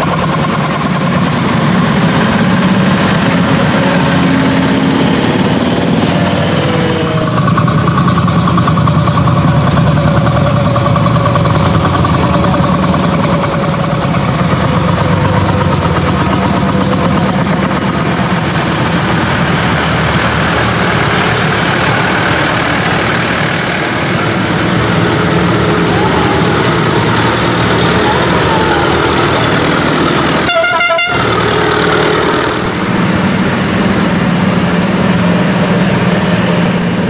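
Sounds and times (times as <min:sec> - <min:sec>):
tractor engines driving past: 0:00.0 - 0:37.0.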